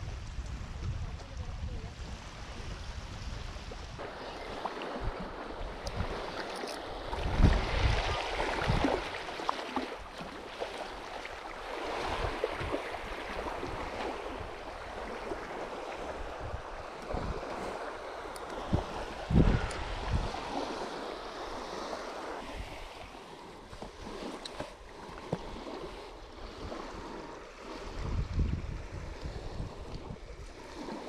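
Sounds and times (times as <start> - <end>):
small waves washing on sand: 0.0 - 31.0
wind on microphone: 0.0 - 31.0.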